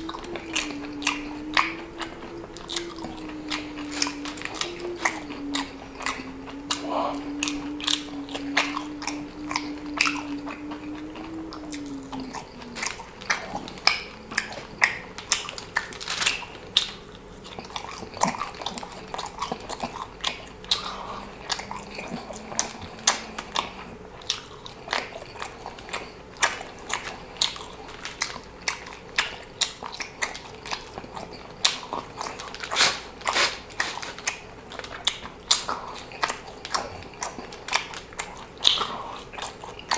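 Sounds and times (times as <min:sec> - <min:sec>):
chewing with mouth clicks: 0:00.0 - 0:39.9
faint low hum: 0:00.0 - 0:39.9.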